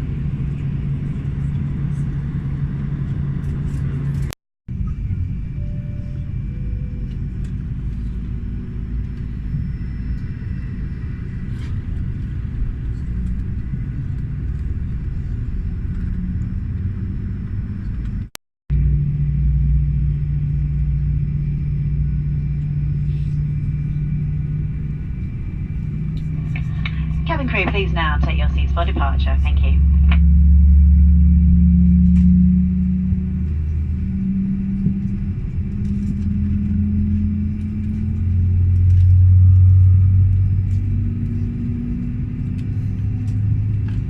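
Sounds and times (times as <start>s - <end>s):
aircraft cabin low rumble: 0.0s - 44.0s
deep hum with low tones: 0.0s - 44.0s.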